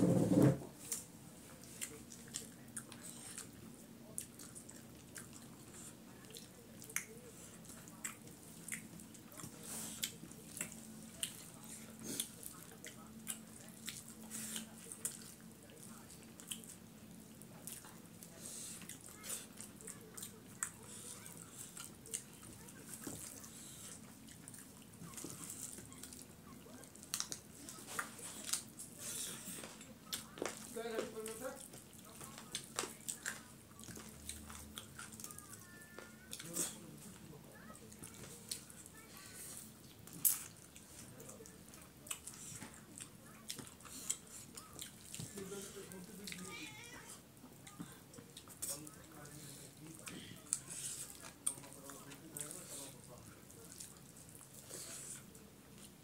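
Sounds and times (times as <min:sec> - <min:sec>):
chewing: 0:00.8 - 0:56.0
wet squishing of food by hand: 0:00.8 - 0:56.0.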